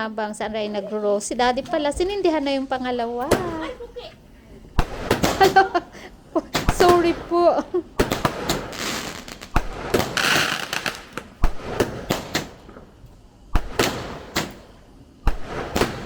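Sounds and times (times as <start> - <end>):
firework hissing: 0.6 - 16.0
firework bangs and cracks: 1.5 - 16.0.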